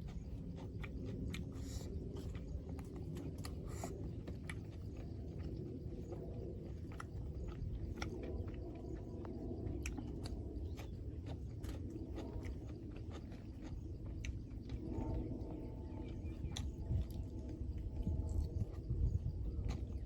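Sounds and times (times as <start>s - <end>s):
low background rumble: 0.0s - 20.0s
person chewing food: 0.0s - 20.0s.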